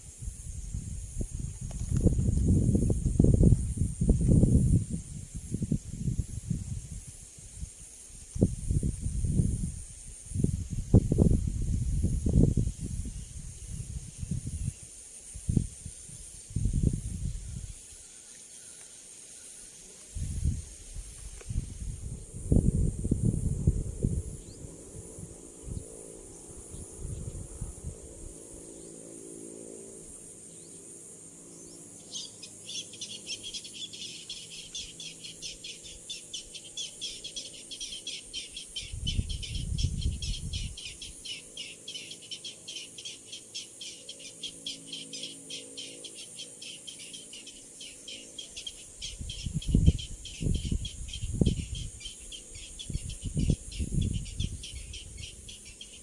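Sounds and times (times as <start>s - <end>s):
insects humming: 0.0s - 56.0s
pulsing insect chirr: 0.0s - 56.0s.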